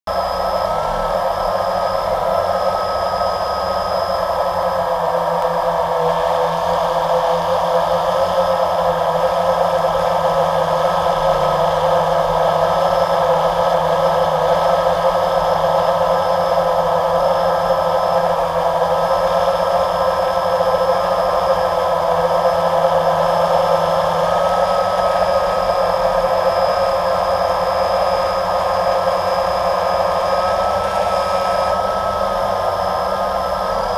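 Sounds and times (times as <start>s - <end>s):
drone propellers whirring: 0.1s - 33.9s.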